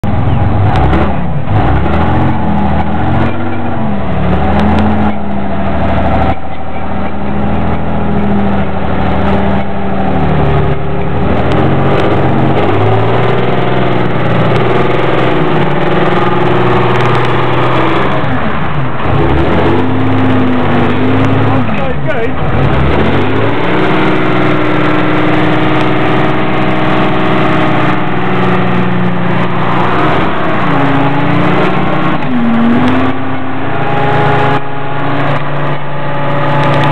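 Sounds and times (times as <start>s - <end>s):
vehicle engine revving: 0.0s - 36.9s.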